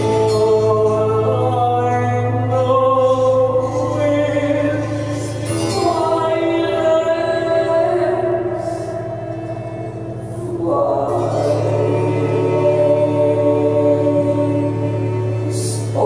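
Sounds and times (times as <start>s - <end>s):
low drone: 0.0s - 16.0s
woman singing sustained notes: 0.0s - 16.0s.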